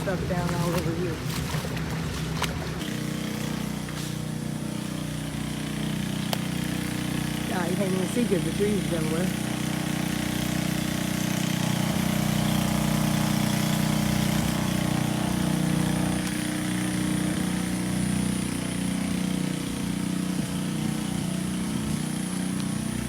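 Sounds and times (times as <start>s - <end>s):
engine running with low hum: 0.0s - 23.0s.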